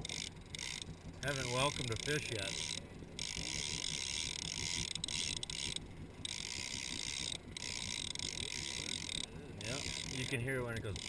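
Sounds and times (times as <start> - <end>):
fishing reel gears whirring: 0.0 - 11.0.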